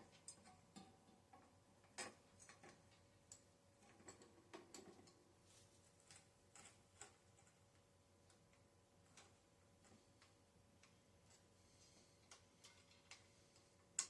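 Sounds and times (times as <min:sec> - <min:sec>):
metal parts clicking and tapping: 0:00.0 - 0:05.2, 0:06.0 - 0:11.5, 0:12.2 - 0:14.0.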